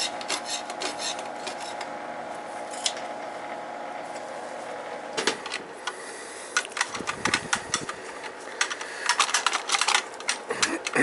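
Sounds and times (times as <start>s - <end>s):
boiler room machinery humming: 0.0s - 11.0s.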